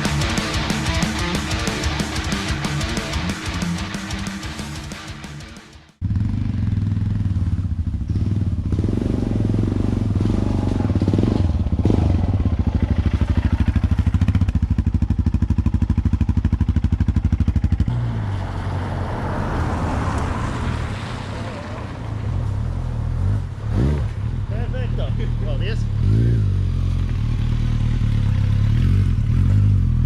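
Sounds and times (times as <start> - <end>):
motorcycle engine running: 0.0 - 18.0, 23.8 - 30.0.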